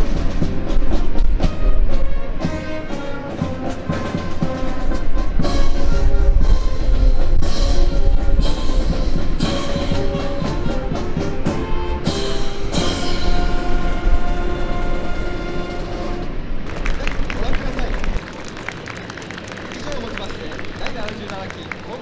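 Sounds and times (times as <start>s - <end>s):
orchestral music with brass and drums: 0.0s - 18.1s.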